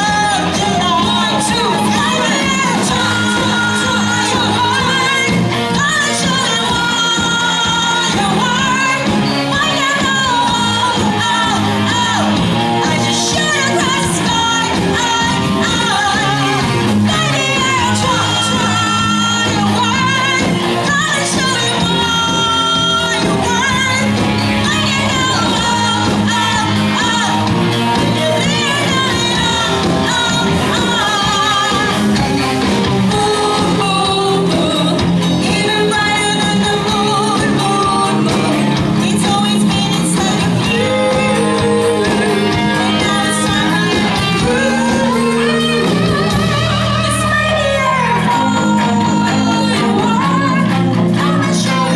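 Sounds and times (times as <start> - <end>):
band playing pop-rock song: 0.0 - 51.9
lead vocal singing: 0.0 - 51.9.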